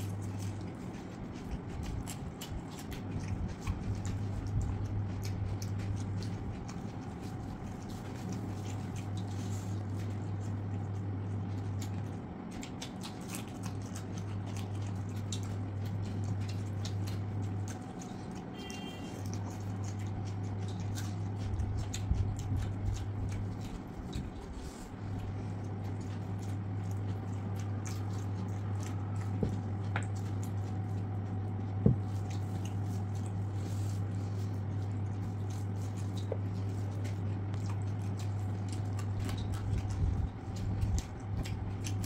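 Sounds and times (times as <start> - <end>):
fingers squishing rice: 0.0 - 42.0
steady low hum: 0.0 - 42.0
wet chewing clicks: 0.0 - 42.0.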